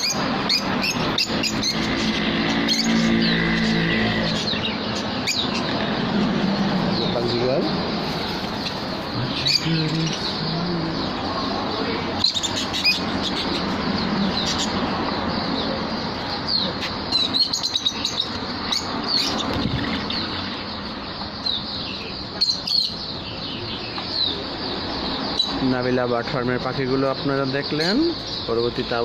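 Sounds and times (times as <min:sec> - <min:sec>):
flock of budgerigars chattering: 0:00.0 - 0:29.0.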